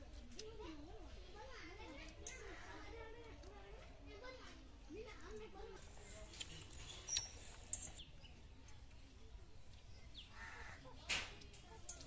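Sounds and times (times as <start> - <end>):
birds chirping faintly: 2.0 - 12.0.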